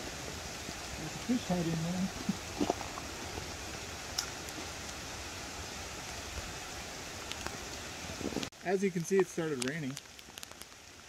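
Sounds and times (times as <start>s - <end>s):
rain falling on lake: 0.0s - 11.0s.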